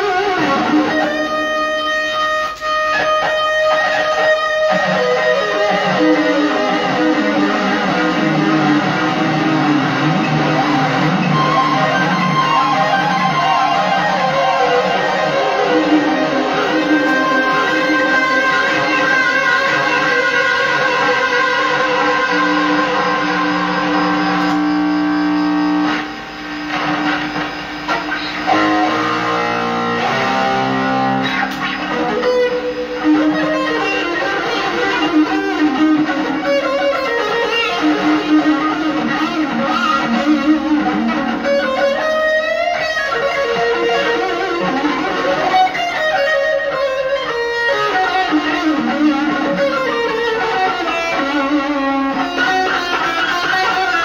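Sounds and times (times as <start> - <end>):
overdriven electric guitar: 0.0 - 54.0.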